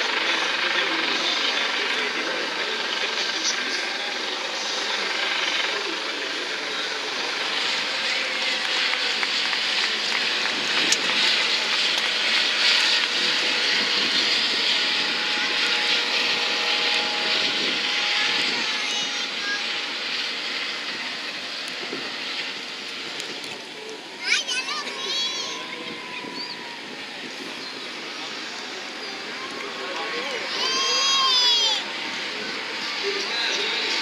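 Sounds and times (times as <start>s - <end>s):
helicopter flying past: 0.0s - 34.0s.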